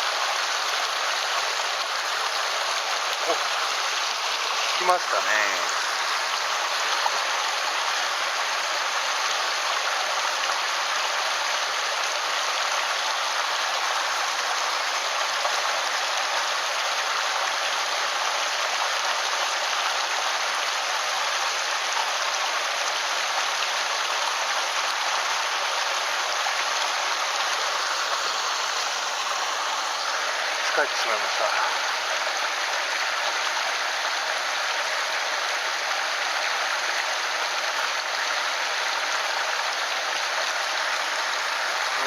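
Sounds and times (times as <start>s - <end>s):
mountain stream rushing over rocks: 0.0s - 42.0s.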